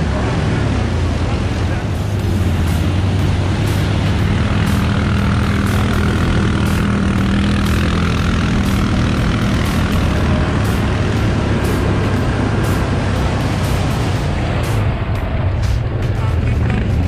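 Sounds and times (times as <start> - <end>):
quad bike engine droning: 0.0 - 17.0
water splashing around wheels: 0.0 - 17.0.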